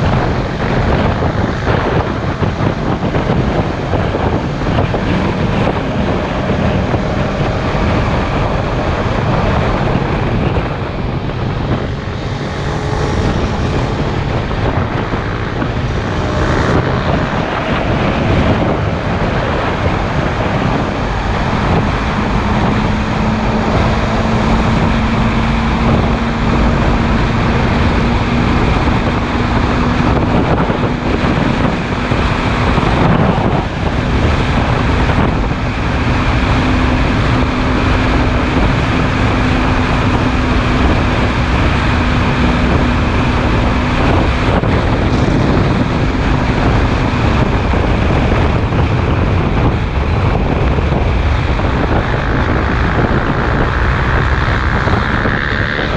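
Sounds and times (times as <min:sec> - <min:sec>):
motorcycle engine running: 0:00.0 - 0:55.9
wind noise on microphone: 0:00.0 - 0:55.9.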